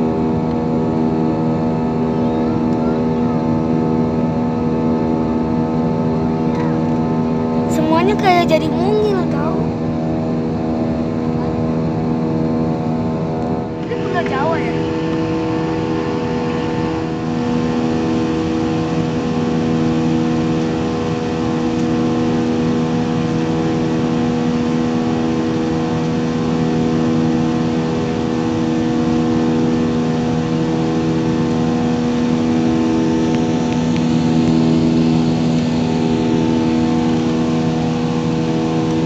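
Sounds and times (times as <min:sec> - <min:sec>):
jet engine drone: 0:00.0 - 0:39.0.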